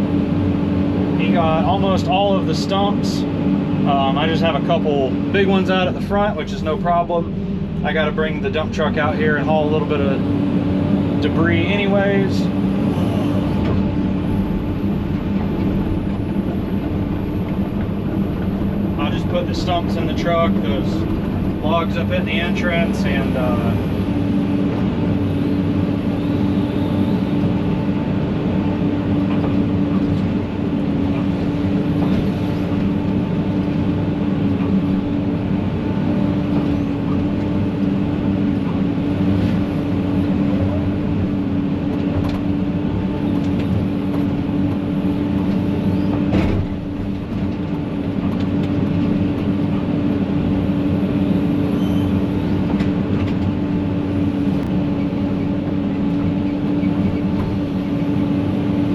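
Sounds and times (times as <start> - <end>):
heavy machinery engine running: 0.0 - 58.9.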